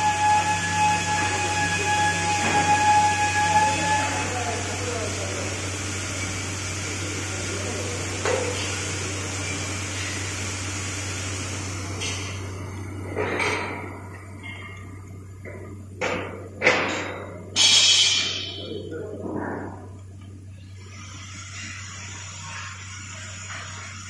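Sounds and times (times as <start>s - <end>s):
bowl feeder humming: 0.0s - 24.0s.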